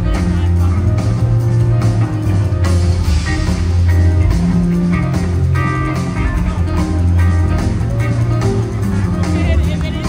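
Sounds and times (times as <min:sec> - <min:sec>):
bass line: 0:00.0 - 0:10.0
drums: 0:00.0 - 0:10.0
electric guitars: 0:00.0 - 0:10.0.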